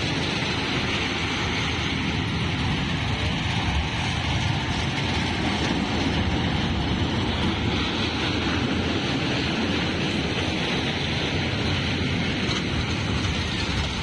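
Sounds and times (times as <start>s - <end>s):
fairground ride train rumbling: 0.0s - 14.0s.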